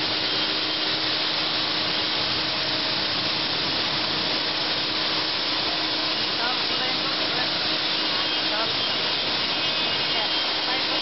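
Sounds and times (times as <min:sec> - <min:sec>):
machine rushing noise with low hum: 0:00.0 - 0:11.0.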